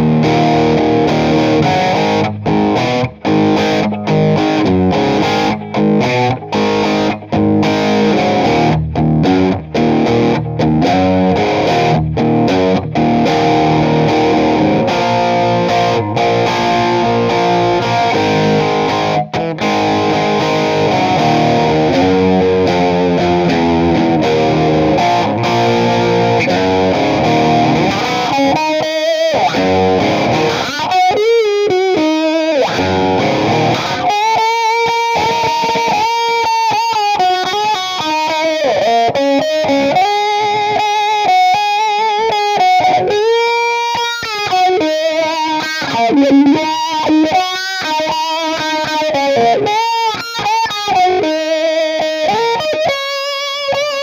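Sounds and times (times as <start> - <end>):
distorted electric guitar riff: 0.0 - 54.0.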